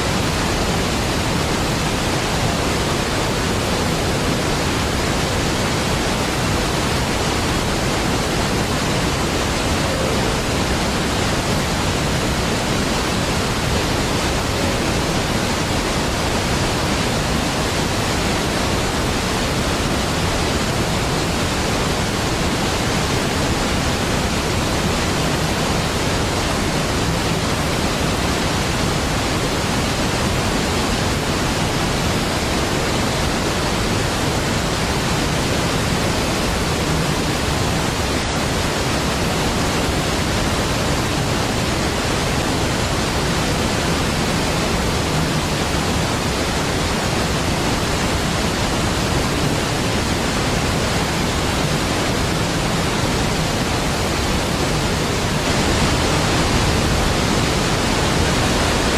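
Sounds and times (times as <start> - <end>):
waterfall crashing: 0.0 - 58.9.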